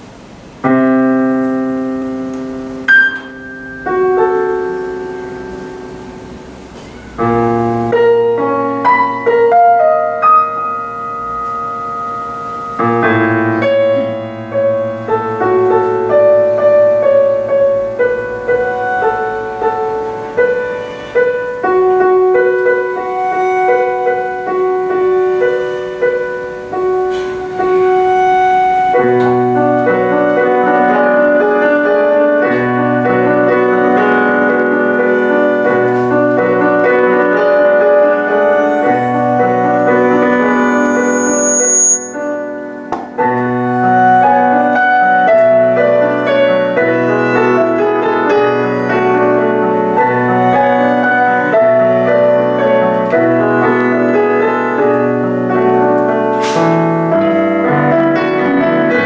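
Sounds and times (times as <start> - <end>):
piano chords: 0.0 - 59.0
cello bowed notes: 1.5 - 59.0.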